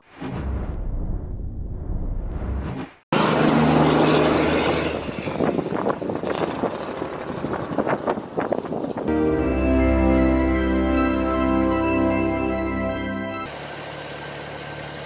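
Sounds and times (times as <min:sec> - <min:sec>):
low engine tone: 0:00.5 - 0:15.0.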